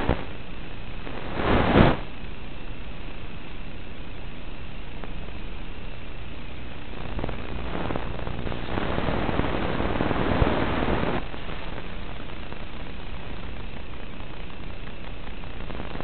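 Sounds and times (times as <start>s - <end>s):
static hiss from video receiver: 0.0s - 16.0s.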